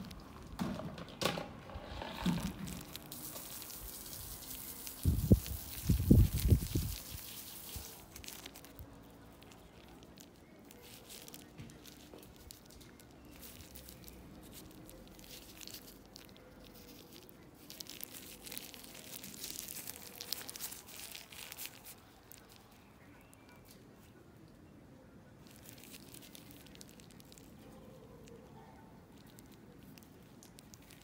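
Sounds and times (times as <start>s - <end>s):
disposable glove crinkling: 0.0s - 24.2s, 25.3s - 31.0s.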